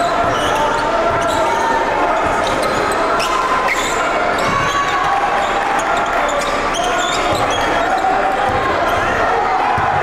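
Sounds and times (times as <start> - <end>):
sneaker squeaks: 0.0 - 9.2
crowd chatter: 0.0 - 10.0.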